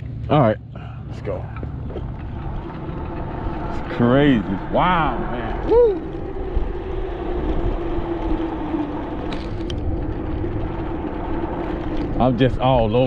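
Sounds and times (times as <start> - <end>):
wind and road rumble: 0.0 - 13.0
electric motor hum: 1.4 - 13.0.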